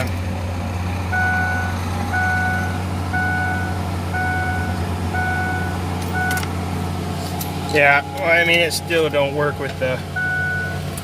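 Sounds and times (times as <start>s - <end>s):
engine idling low hum: 0.0s - 11.0s
seatbelt warning chime dinging: 1.1s - 6.6s, 7.5s - 11.0s.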